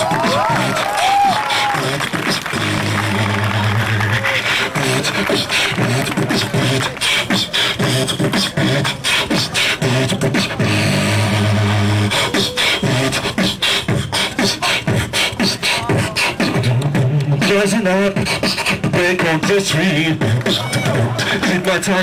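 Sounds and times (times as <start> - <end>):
person beatboxing into microphone: 0.0 - 22.0.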